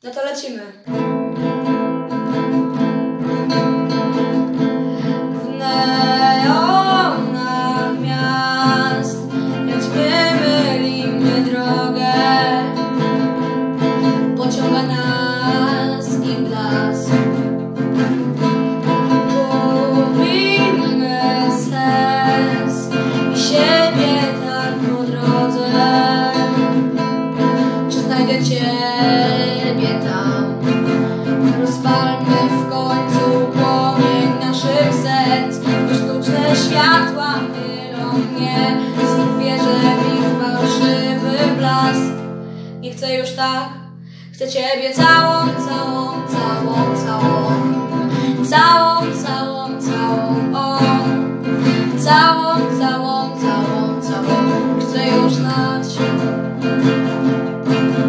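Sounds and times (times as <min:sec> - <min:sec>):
guitar strumming chords: 0:00.9 - 0:58.0
boy singing: 0:03.3 - 0:57.1.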